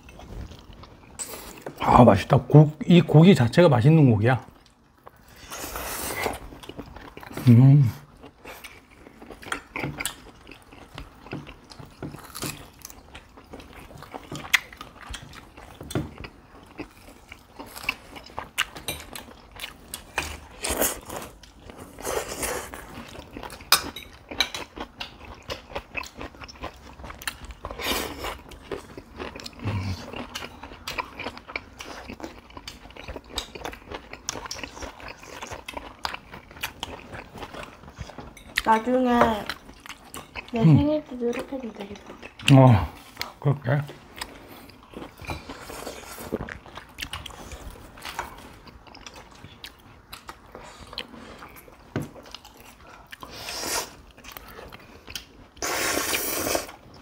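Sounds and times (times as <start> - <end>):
people chewing food: 0.0 - 57.0.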